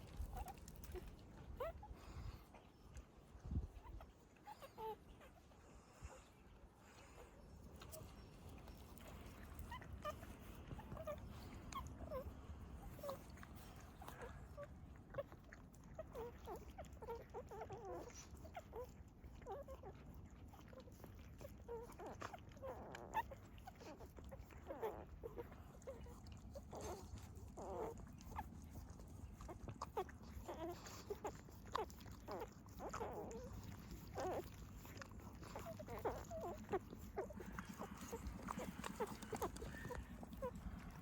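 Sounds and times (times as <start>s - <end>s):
dog whimpering: 0.0s - 2.9s, 3.6s - 6.2s, 7.0s - 41.0s
low steady rumble: 0.0s - 41.0s.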